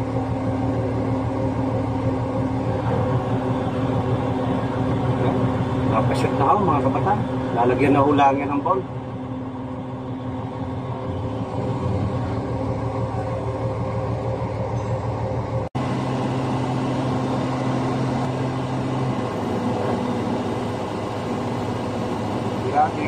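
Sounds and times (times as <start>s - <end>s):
crane diesel engine running: 0.0s - 23.0s.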